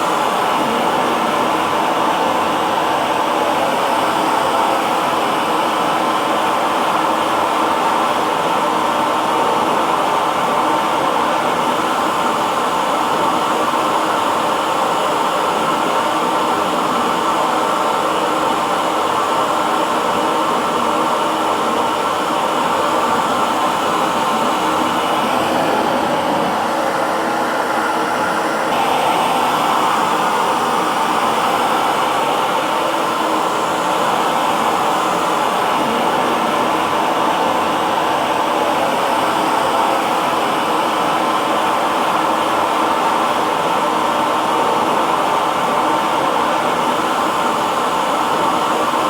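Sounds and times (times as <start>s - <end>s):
hair dryer blowing: 0.0s - 49.0s.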